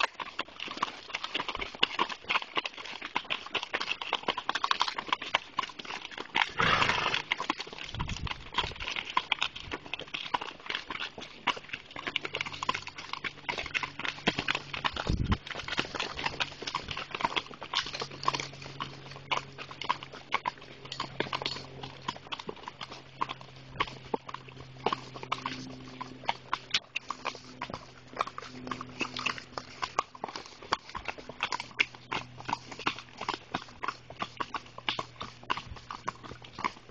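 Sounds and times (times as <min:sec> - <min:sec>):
hooves clip-clopping on dirt: 0:00.0 - 0:36.9.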